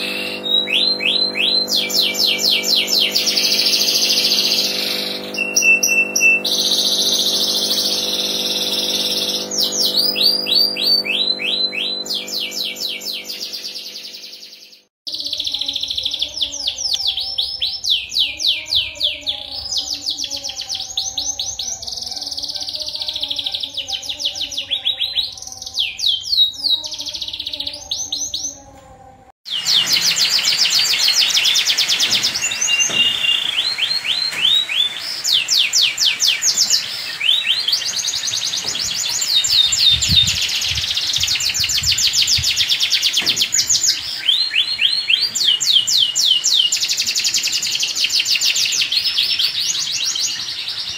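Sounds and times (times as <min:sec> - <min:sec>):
canaries trilling song: 0:00.0 - 0:28.6, 0:29.5 - 0:50.9.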